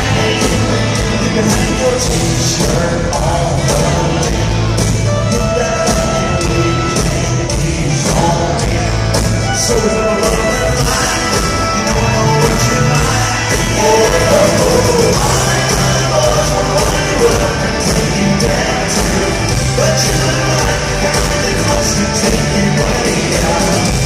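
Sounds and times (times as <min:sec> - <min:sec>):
lead singer's voice: 0:00.0 - 0:24.0
live country-rock band: 0:00.0 - 0:24.0.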